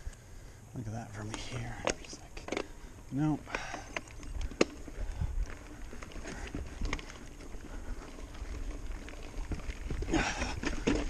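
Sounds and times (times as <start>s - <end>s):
bike tyres rumbling on dirt trail: 0.3s - 11.0s
bike clicking and rattling: 1.1s - 11.0s.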